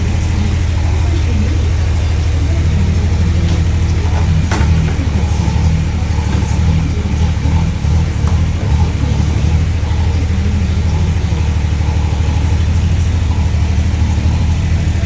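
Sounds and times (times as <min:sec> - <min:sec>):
digger engine running: 0:00.0 - 0:15.0.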